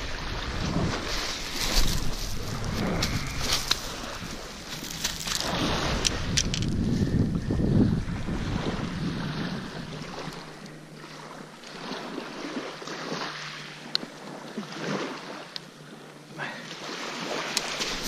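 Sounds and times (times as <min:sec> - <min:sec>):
small waves on pebble shore: 0:00.0 - 0:06.6, 0:08.2 - 0:15.5, 0:16.7 - 0:18.0.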